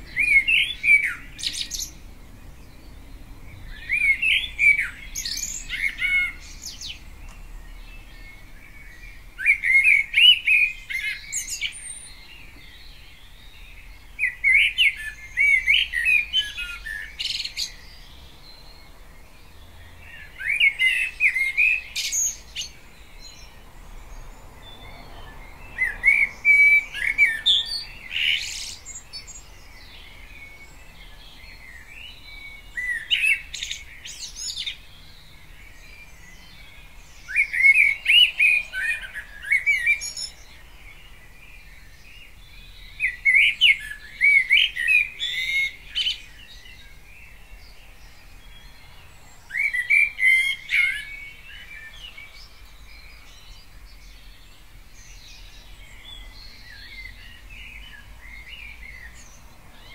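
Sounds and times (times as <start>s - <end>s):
blackbird singing: 0.0s - 59.9s.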